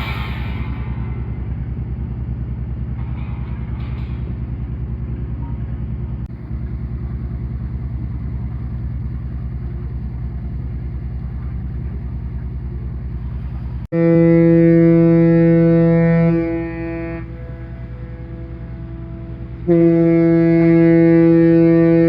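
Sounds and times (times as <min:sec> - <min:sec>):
ship engine throbbing: 0:00.0 - 0:22.0.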